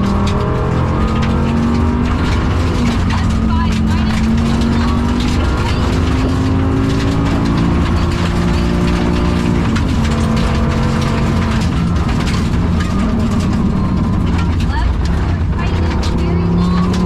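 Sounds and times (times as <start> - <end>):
gravel ticks and rattles: 0.0 - 17.0
rally car engine accelerating: 0.0 - 17.0.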